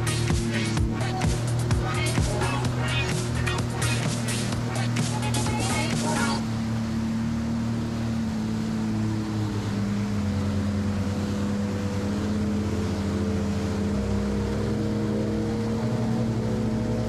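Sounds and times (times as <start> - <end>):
jet ski engine droning: 0.0 - 17.0
water spray rushing: 0.0 - 17.0
wind: 0.0 - 17.0.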